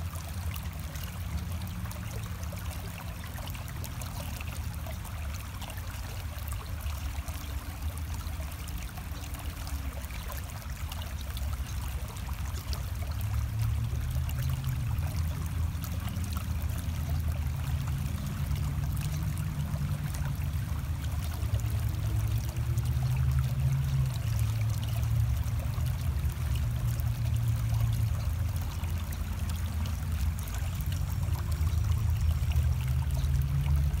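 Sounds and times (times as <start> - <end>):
creek water flowing over rocks: 0.0 - 34.0.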